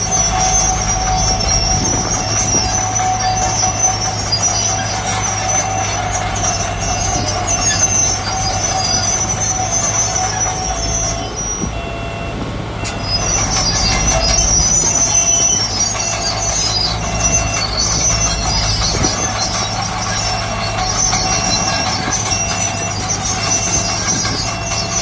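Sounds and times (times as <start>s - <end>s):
diesel engine running: 0.0s - 25.0s
metallic squealing and scraping: 0.0s - 25.0s.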